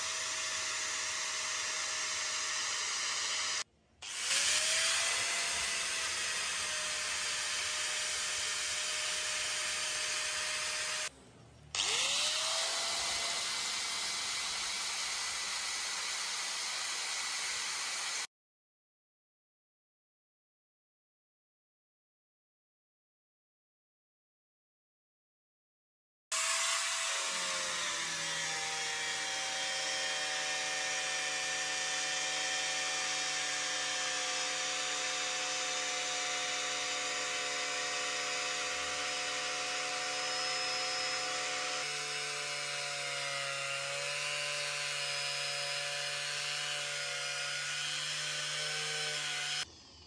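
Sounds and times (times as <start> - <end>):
angle grinder whining: 0.0 - 11.1, 11.8 - 18.3, 26.3 - 50.0.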